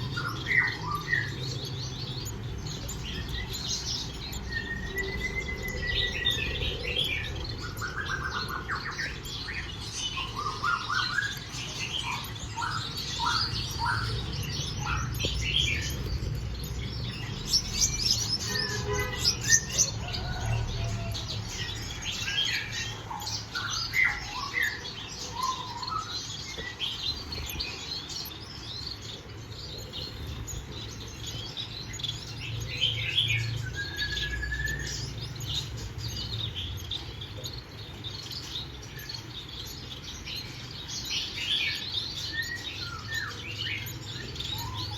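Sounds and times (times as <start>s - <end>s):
finches chirping: 0.0s - 44.9s.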